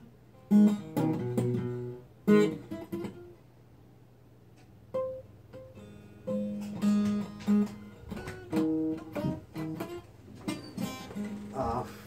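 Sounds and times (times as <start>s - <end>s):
acoustic guitar picking: 0.0s - 3.5s, 4.5s - 12.0s.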